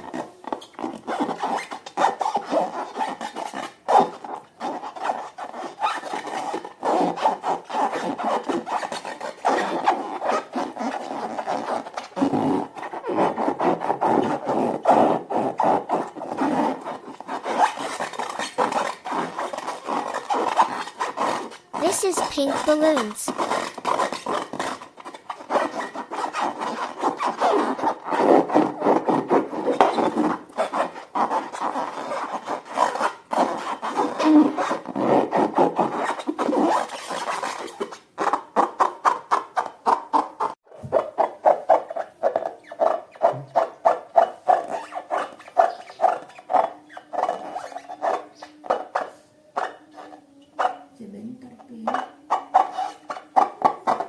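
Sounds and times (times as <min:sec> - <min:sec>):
slime squishing and scraping: 0:00.0 - 0:50.9, 0:51.8 - 0:54.0.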